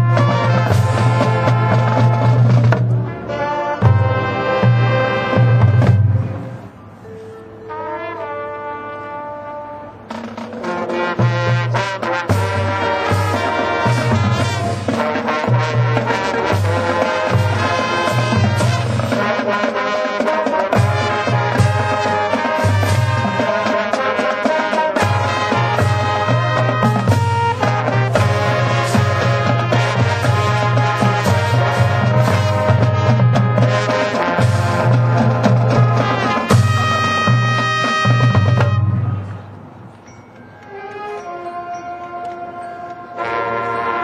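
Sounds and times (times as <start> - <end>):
marching band playing: 0.0 - 44.0.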